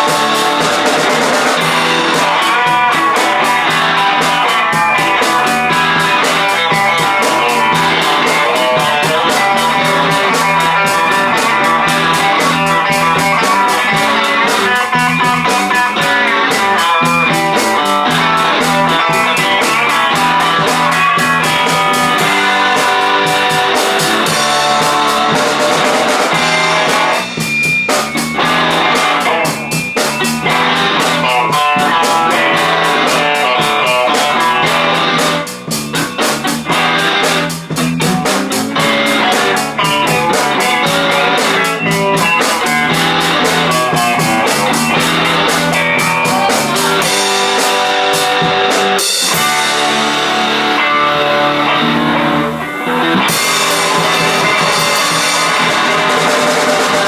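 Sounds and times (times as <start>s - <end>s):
electric guitar: 0.0s - 57.0s
rock band playing live: 0.0s - 57.0s.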